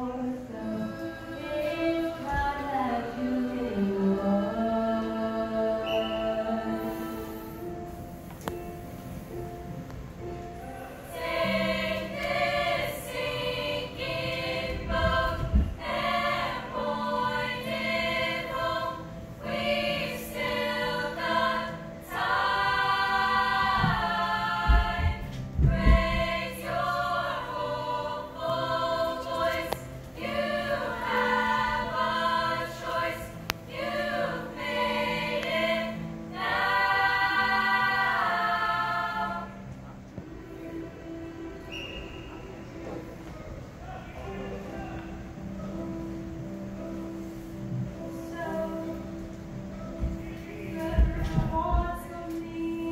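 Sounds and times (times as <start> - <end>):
girls choir singing: 0.0 - 43.2, 43.8 - 52.9.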